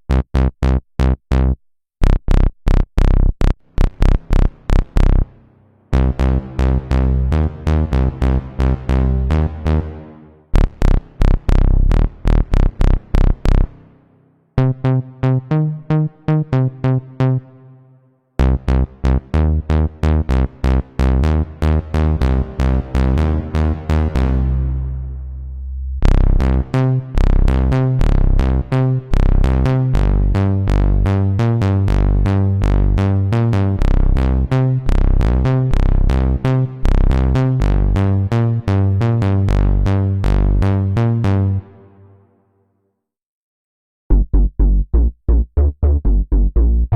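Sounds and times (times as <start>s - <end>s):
synthesizer bass notes: 0.0s - 41.9s, 44.1s - 46.9s.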